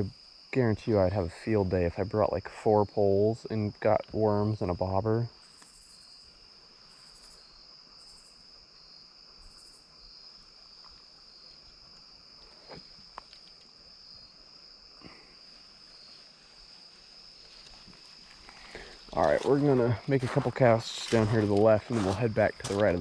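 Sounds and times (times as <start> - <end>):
crickets trilling: 0.0 - 23.0
high insect buzz: 2.8 - 23.0.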